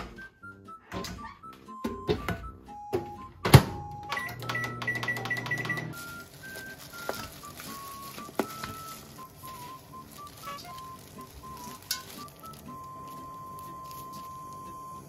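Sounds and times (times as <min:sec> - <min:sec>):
light background music: 0:00.0 - 0:15.0
microwave oven beeping: 0:00.0 - 0:15.0
microwave humming: 0:00.9 - 0:15.0.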